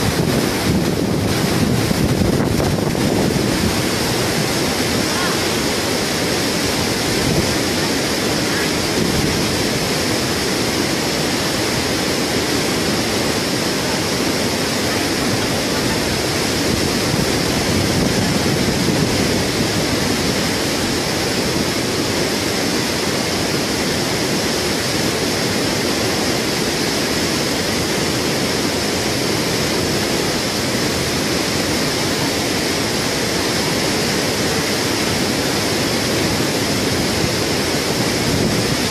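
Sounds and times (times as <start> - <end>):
fast-flowing river water: 0.0 - 38.9.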